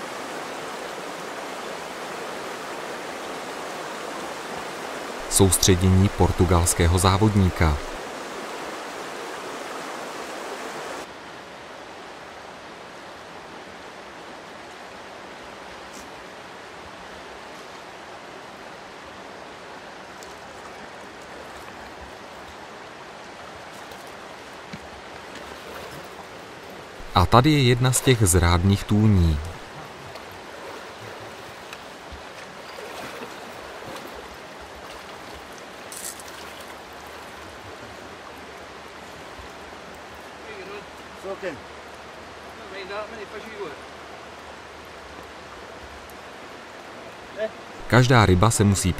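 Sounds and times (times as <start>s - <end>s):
river water rushing over rocks: 0.0s - 48.8s.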